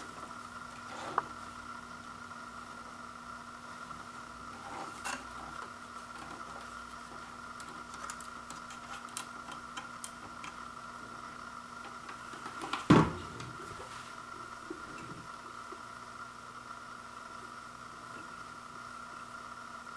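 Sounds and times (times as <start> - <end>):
steady background hum: 0.0 - 19.9.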